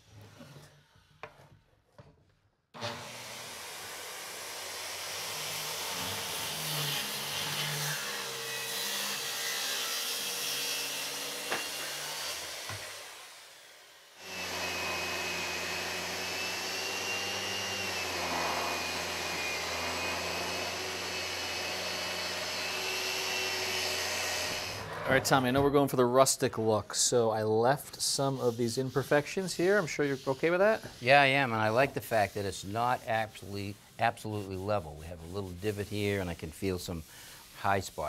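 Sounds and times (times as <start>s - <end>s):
circular saw cutting wood: 2.8s - 25.6s, 27.0s - 38.0s.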